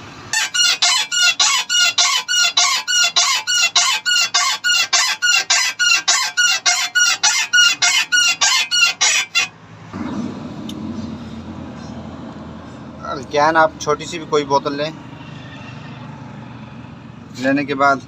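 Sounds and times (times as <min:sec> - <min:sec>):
car suspension squeaking: 0:00.3 - 0:12.0, 0:12.6 - 0:16.6.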